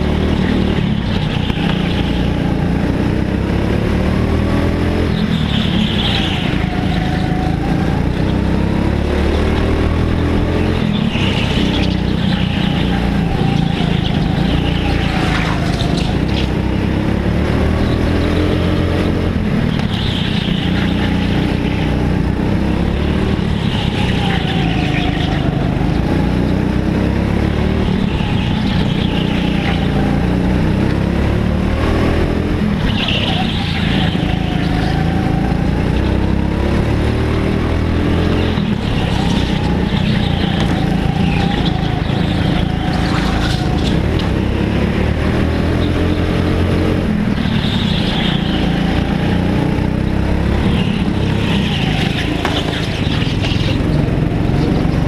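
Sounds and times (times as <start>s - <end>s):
go-kart engine revving: 0.0s - 55.0s
second kart engine: 0.0s - 55.0s.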